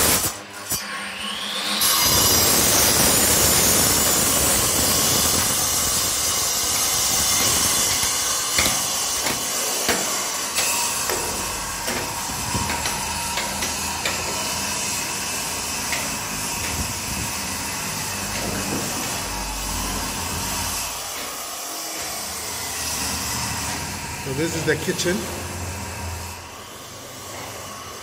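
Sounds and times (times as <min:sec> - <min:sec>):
power tool grinding concrete: 0:00.0 - 0:28.0.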